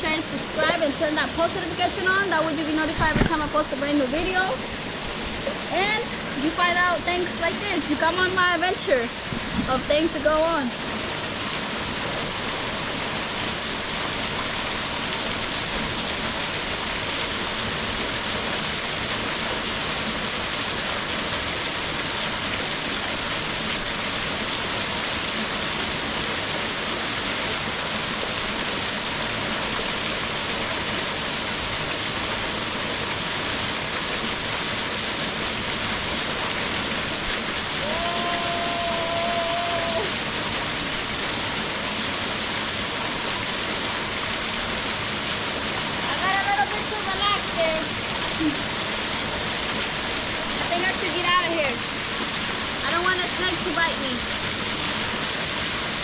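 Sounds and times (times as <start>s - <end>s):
small waterfall pouring into pool: 0.0s - 56.0s.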